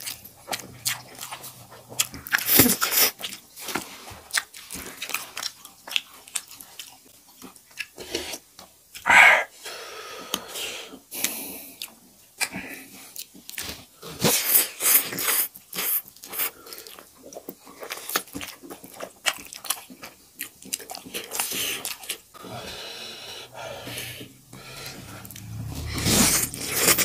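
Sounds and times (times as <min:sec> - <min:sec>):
people slurping and chewing: 0:00.0 - 0:27.0.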